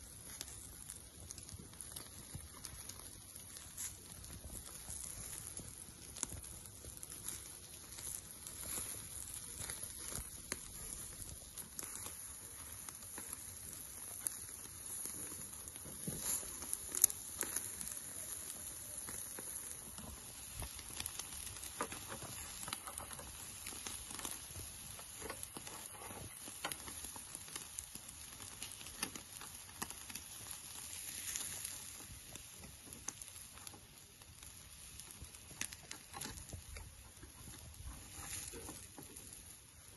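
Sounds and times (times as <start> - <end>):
coals crackling: 0.0 - 39.9
meat sizzling over charcoal: 0.0 - 39.9.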